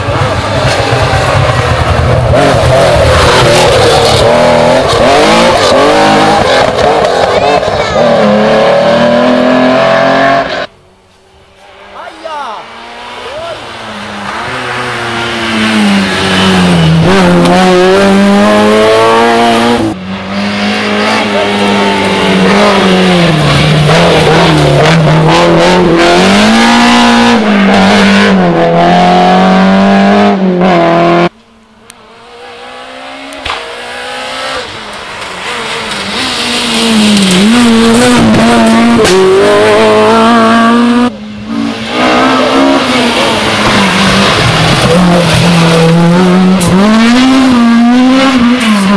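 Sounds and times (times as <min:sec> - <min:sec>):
rally car engines at full throttle: 0:00.0 - 0:48.9.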